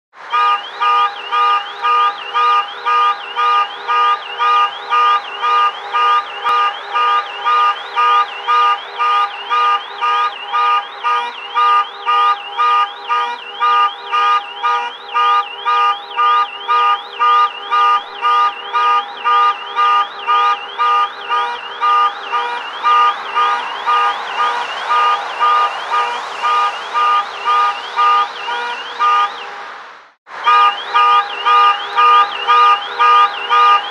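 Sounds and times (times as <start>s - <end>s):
street noise: 0.1s - 33.9s
car alarm beeping: 0.3s - 29.6s, 30.4s - 33.9s.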